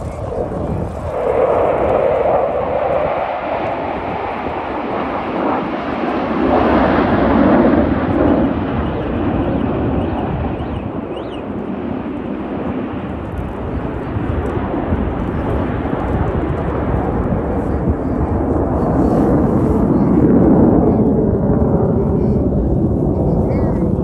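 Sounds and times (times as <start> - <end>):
jets flying past: 0.0 - 24.0.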